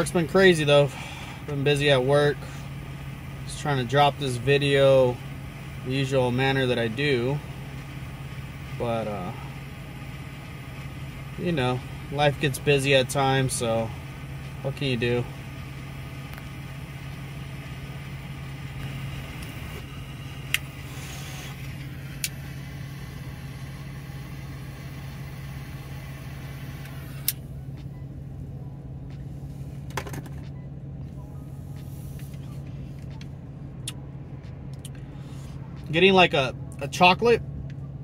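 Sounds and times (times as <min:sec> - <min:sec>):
car engine idling hum: 0:00.0 - 0:38.0.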